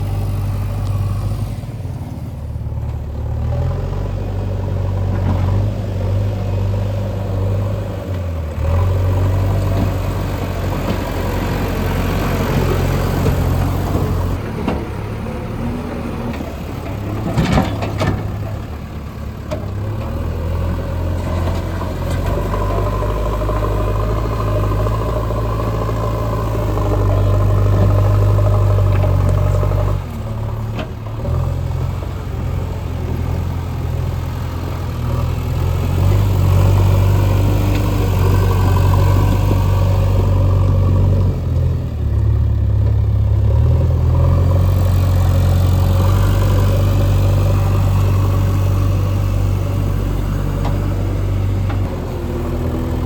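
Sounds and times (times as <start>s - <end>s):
diesel engines droning: 0.0s - 53.0s.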